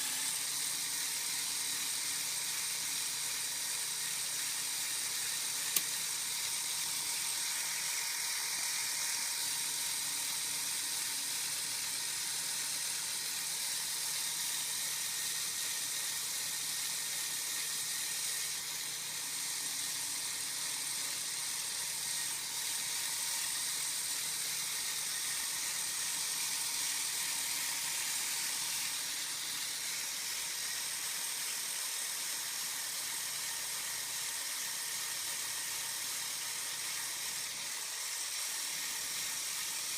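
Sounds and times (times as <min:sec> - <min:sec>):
plastic gears whirring: 0:00.0 - 0:39.9.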